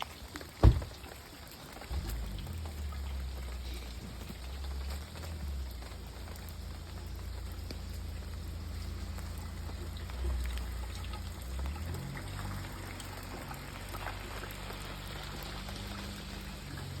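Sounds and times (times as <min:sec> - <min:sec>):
raindrop ticks: 0:00.0 - 0:17.0
steady rain hiss: 0:00.0 - 0:17.0.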